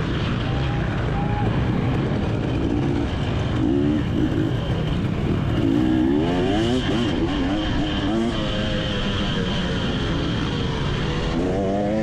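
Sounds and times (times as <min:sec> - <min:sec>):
motocross bike engine revving: 0:01.8 - 0:12.0.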